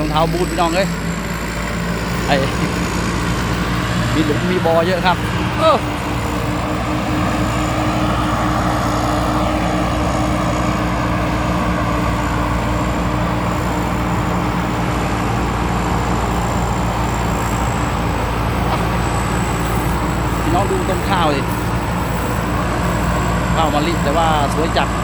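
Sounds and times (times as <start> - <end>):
diesel engine drone: 0.0 - 25.0
thin high whine: 0.0 - 25.0.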